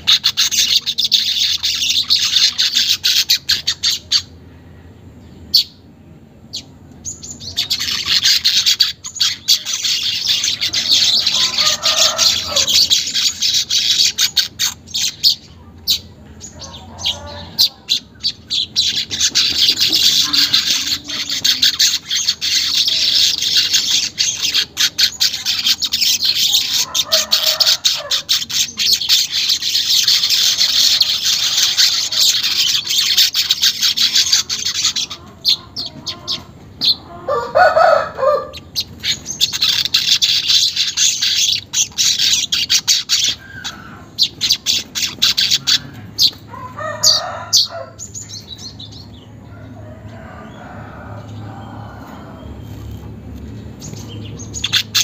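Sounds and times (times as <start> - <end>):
birds chattering buzzy song: 0.0 - 55.0.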